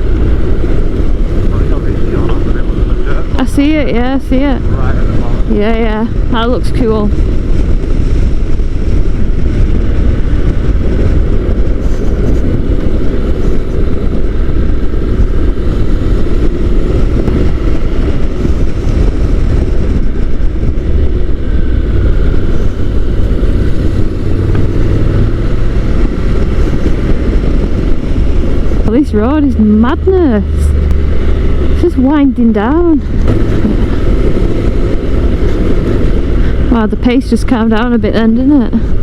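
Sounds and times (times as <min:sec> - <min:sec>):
motorcycle engine drone: 0:00.0 - 0:39.0
wind rumble on microphone: 0:00.0 - 0:39.0.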